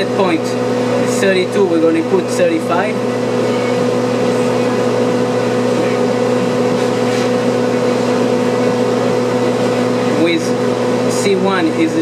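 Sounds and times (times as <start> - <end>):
refrigeration unit humming: 0.0 - 12.0.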